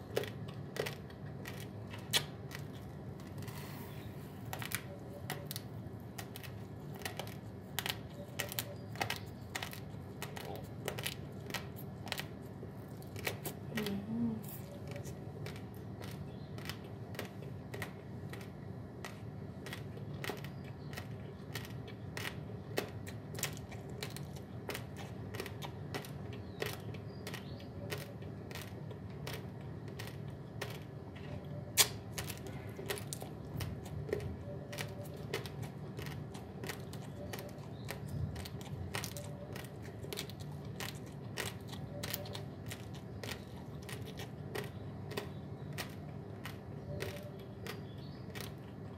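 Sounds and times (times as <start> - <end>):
rice grains crunching chewed: 0.0 - 48.9.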